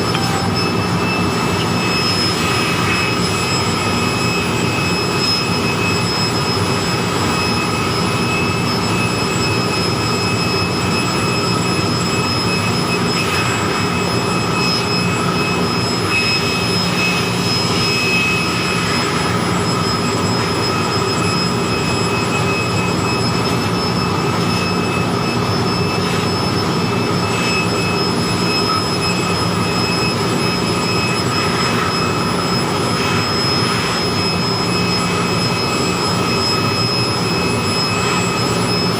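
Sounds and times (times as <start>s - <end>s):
electric air blower running: 0.0s - 6.1s, 13.1s - 38.9s.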